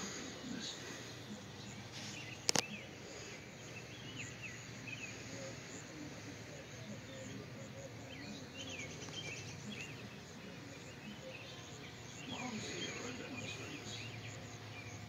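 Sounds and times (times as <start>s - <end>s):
birds chirping: 0.0s - 15.0s
insect drone: 0.0s - 15.0s.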